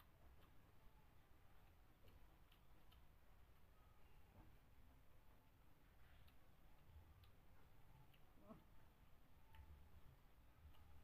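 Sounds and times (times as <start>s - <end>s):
faint low room hum: 0.0s - 11.0s.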